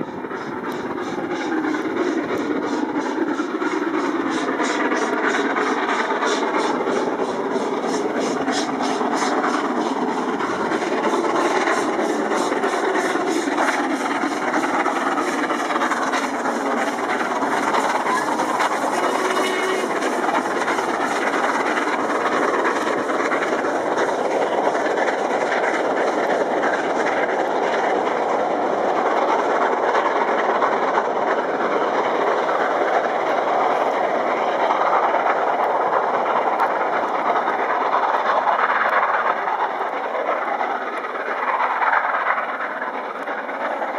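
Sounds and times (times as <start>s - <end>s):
steam train passing at speed: 0.0s - 43.9s.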